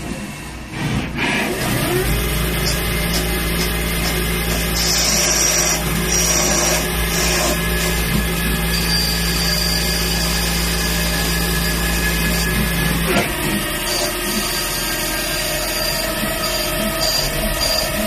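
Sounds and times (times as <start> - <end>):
machine humming: 1.6 - 18.0.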